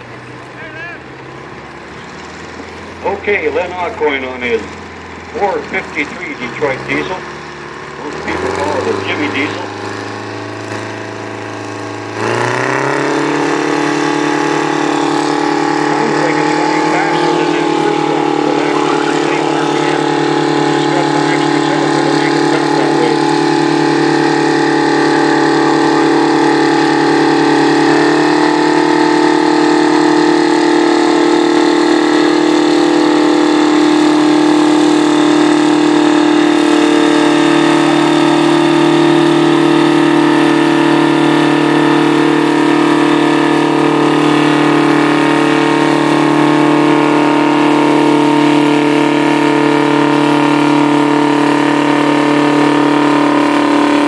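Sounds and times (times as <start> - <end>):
diesel tractor engine screaming: 0.0 - 54.0.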